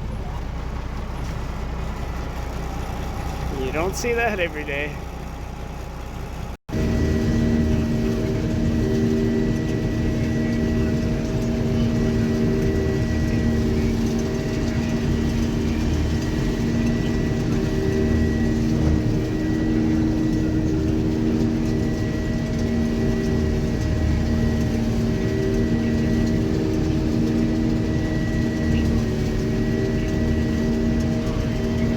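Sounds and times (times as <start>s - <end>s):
combine harvester running: 0.0s - 31.9s.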